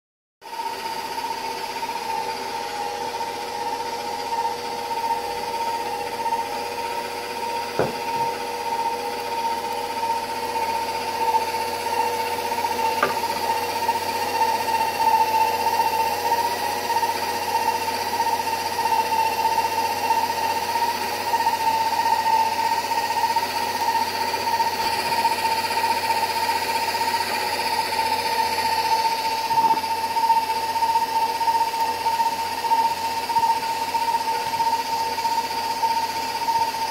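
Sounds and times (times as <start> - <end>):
stand mixer motor whining: 0.4 - 36.9.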